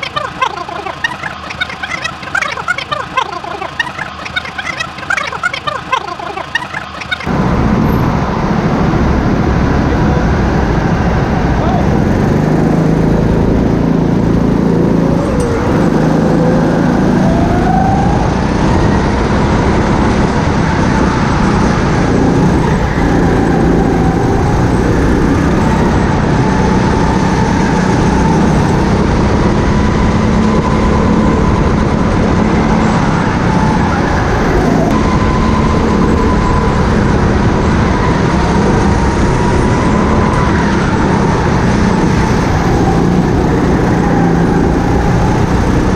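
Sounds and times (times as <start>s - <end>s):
go-kart engine running: 0.0s - 45.9s.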